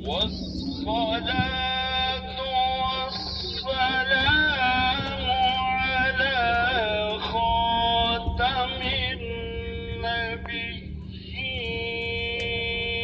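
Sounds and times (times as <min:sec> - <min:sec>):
person singing long wavering notes: 0:00.0 - 0:13.0
steady low hum: 0:00.0 - 0:13.0.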